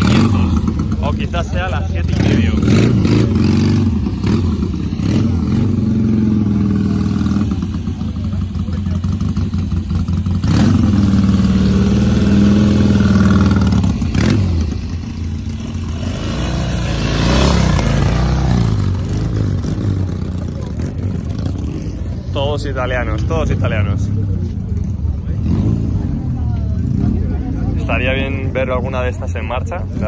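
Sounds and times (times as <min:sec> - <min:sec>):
motorcycle engines idling: 0:00.0 - 0:30.0.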